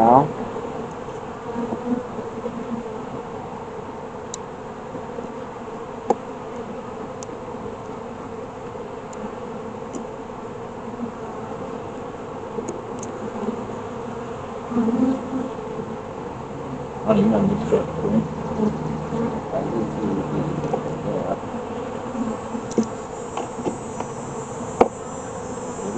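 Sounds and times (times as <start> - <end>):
honeybees buzzing: 0.0 - 25.9.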